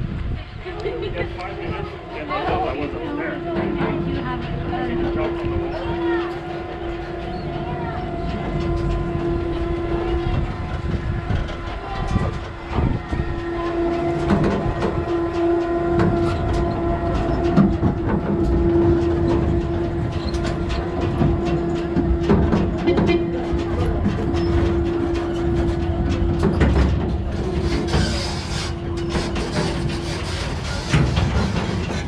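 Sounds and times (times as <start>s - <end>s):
wind rumble on microphone: 0.0s - 32.0s
steady pitched hum: 0.6s - 32.0s.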